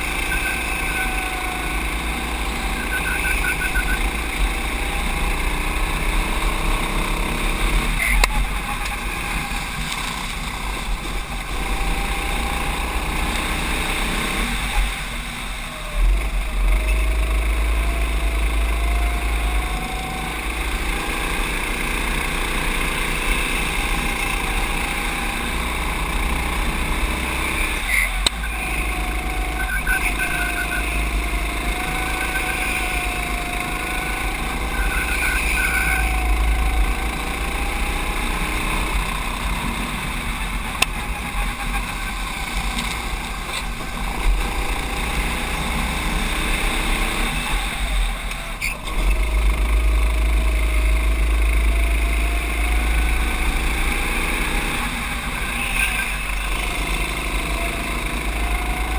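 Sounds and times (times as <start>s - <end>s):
racing kart engine: 0.0s - 58.9s.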